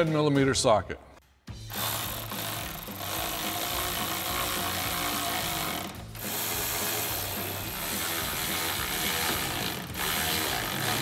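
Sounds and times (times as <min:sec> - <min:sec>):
cordless electric ratchet running: 0:01.7 - 0:11.0.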